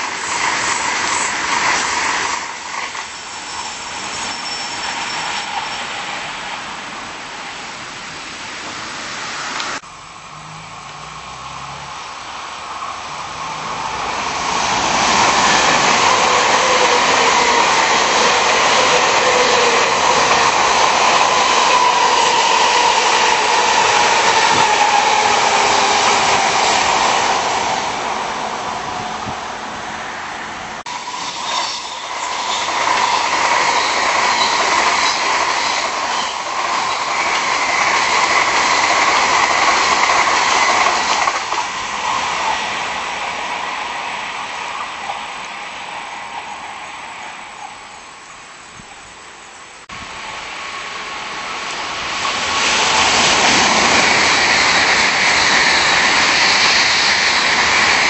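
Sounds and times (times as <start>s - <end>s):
high-speed train rushing past: 0.0s - 58.0s.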